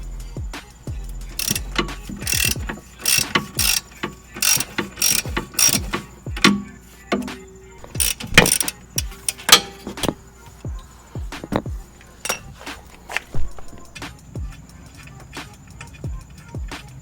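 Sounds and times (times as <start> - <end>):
ratchet wrench clicking: 0.0 - 17.0.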